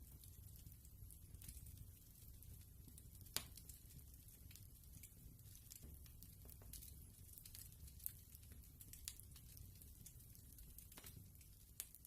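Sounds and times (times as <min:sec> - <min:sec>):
faint fireplace crackling: 0:00.0 - 0:12.0.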